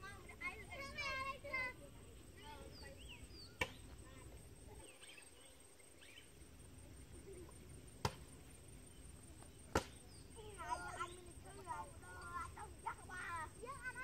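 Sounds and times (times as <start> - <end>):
open-air ambience: 0.0 - 14.0.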